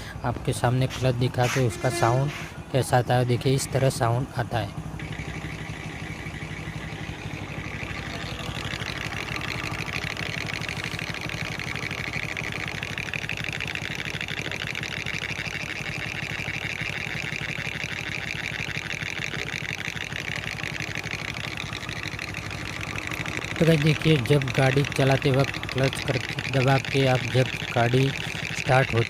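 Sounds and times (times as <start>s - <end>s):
motorcycle engine idling: 0.0s - 29.0s
fast metallic clutch rattle: 5.0s - 29.0s.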